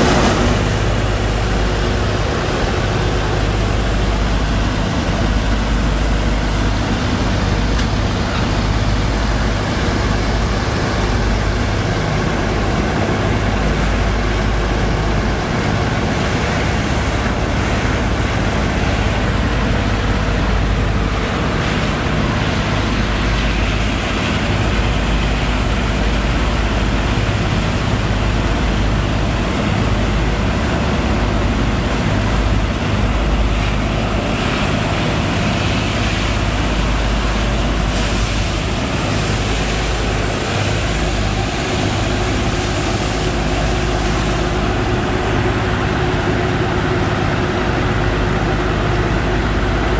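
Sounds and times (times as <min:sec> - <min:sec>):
pump engine humming: 0:00.0 - 0:49.9
rush of water and sand slurry: 0:00.0 - 0:49.9.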